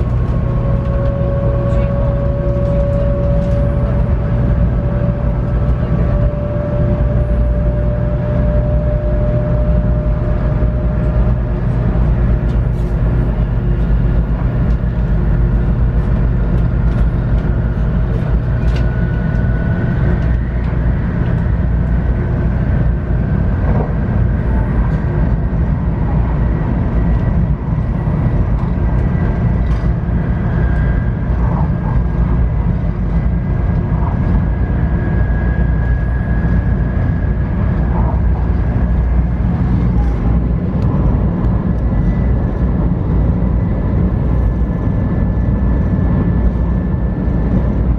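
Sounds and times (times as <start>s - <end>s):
high whine of traction motors: 0.0s - 47.9s
train heavy rumble: 0.0s - 47.9s.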